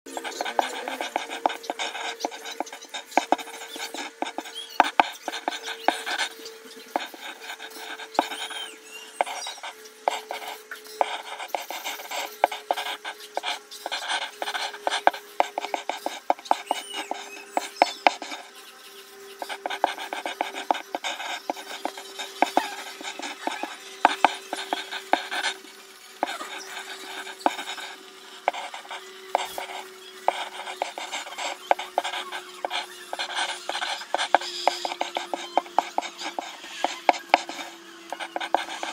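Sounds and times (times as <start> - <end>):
pencil scratching on paper: 0.1 - 38.9.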